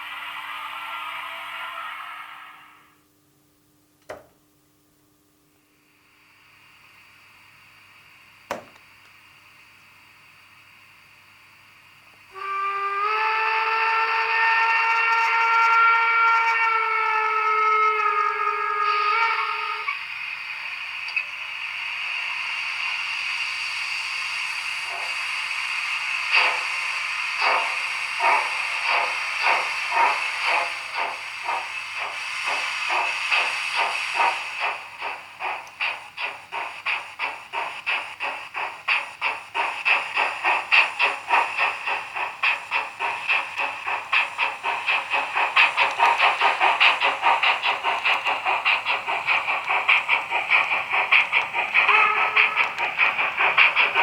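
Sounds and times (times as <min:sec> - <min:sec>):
steam hiss: 0:00.0 - 0:03.0, 0:05.6 - 0:54.0
steam locomotive exhaust chuffs: 0:00.0 - 0:03.0, 0:05.6 - 0:54.0.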